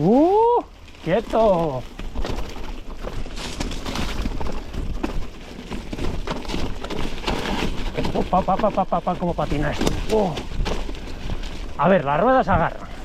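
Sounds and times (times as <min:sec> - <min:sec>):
tyres rolling on wet leaves: 0:00.0 - 0:13.0
bike knocks and rattles: 0:01.0 - 0:13.0.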